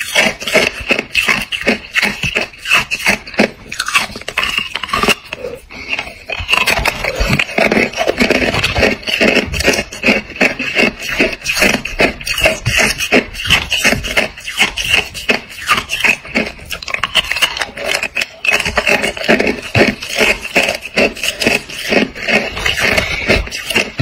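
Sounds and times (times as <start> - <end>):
ice being chewed and crunched: 0.0 - 24.0.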